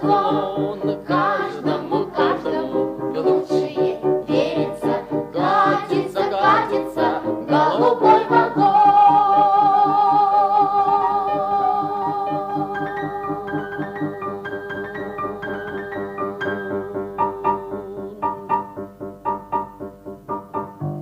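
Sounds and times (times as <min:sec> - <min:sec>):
person singing: 0:00.0 - 0:18.9
instrumental accompaniment: 0:00.0 - 0:21.0.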